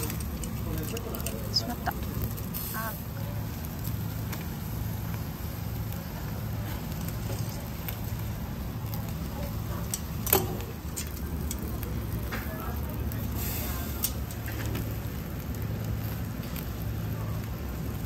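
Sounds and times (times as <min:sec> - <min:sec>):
seafood sizzling on a grill: 0:00.0 - 0:18.0
steady low hum: 0:00.0 - 0:18.0.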